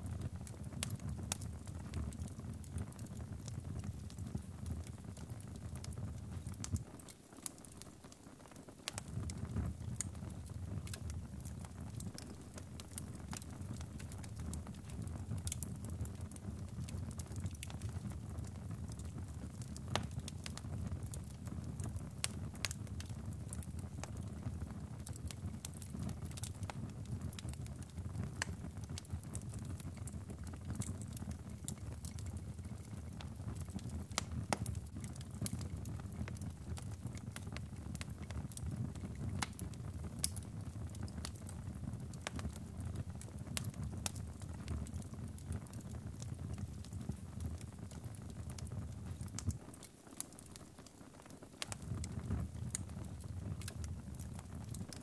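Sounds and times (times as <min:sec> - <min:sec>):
fire rumbling: 0:00.0 - 0:07.9, 0:08.8 - 0:51.0, 0:51.6 - 0:55.0
fire crackling and popping: 0:00.0 - 0:55.0.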